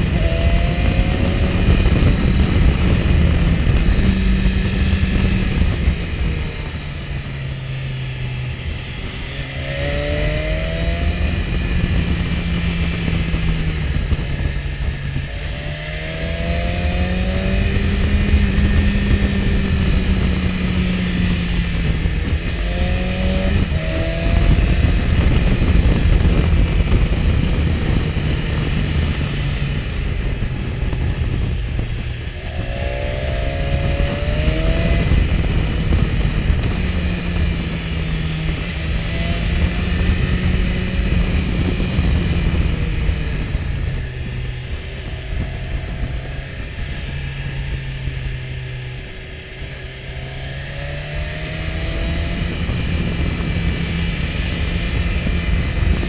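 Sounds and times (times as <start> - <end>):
low wind rumble on microphone: 0.0 - 56.0
motorcycle engine accelerating: 0.0 - 56.0.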